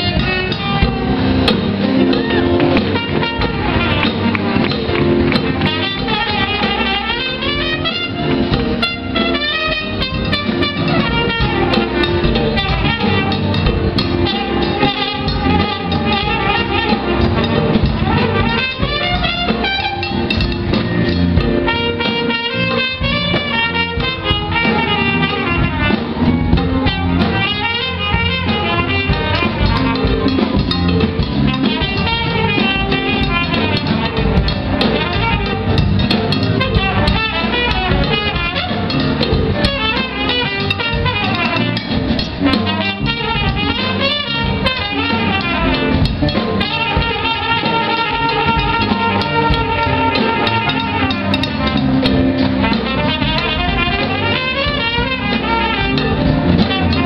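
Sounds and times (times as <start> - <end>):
small jazz band playing: 0.0 - 57.0.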